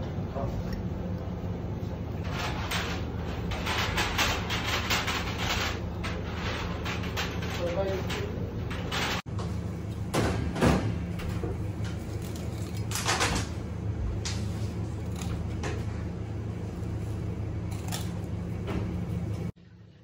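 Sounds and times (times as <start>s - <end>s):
kitchen equipment humming: 0.0s - 20.0s.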